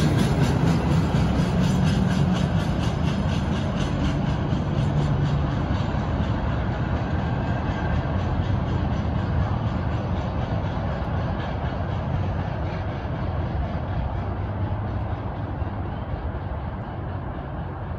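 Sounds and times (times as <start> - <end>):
train wheels rumbling: 0.0 - 17.9.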